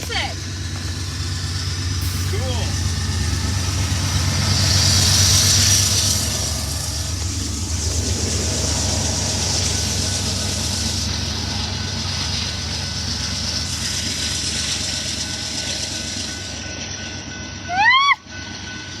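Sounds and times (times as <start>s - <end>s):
train rumbling by: 0.0s - 19.0s.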